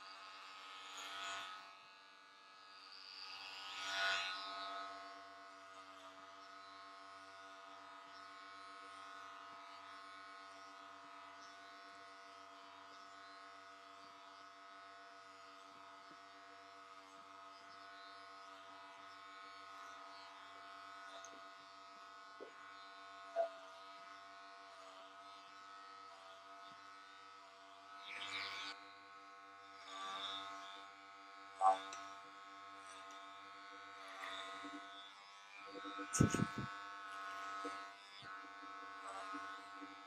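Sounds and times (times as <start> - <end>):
electric hair clippers buzzing: 0.0 - 40.0.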